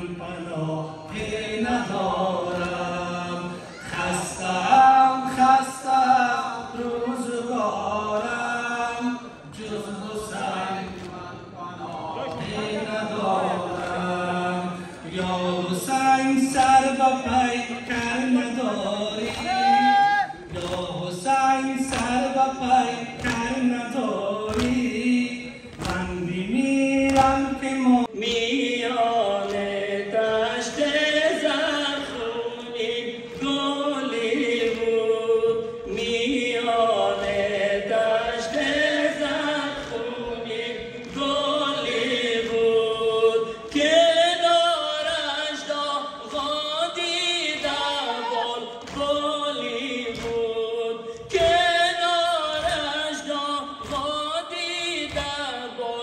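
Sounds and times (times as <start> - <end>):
voices chanting a lament: 0.0 - 56.0.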